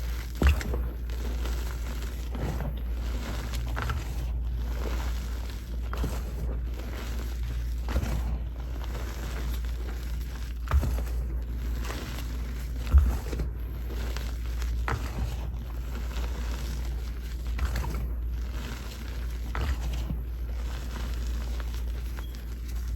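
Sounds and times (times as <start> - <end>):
chalk crunching: 0.0 - 22.9.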